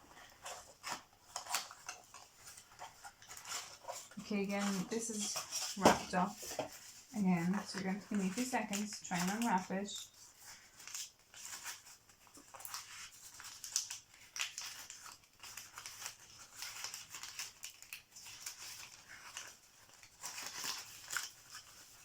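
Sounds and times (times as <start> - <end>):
wrapping crinkling and tearing: 0.0 - 22.0.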